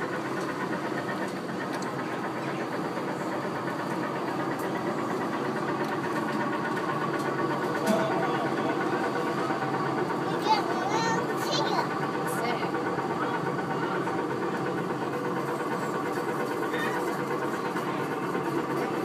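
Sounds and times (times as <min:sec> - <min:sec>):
ride car mechanical hum: 0:00.0 - 0:19.0.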